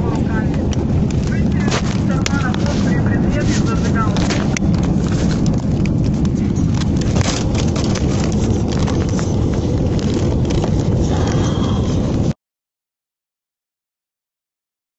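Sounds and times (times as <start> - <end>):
airliner cabin rumble: 0.0 - 12.4.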